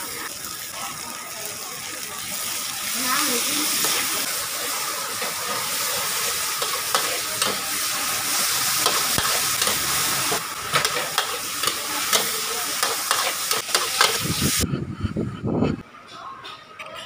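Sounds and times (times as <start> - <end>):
food sizzling in a wok: 0.0 - 14.6.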